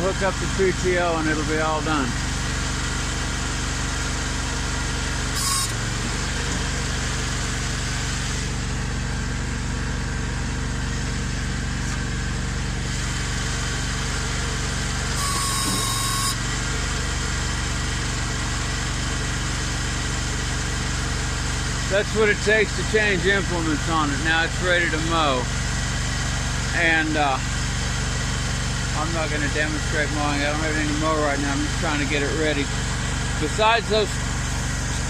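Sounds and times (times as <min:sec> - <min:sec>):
tractor engine idling: 0:00.0 - 0:35.0.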